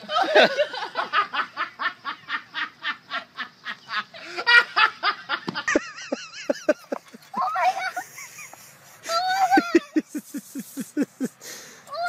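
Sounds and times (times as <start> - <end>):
person laughing hard: 0.0 - 11.4.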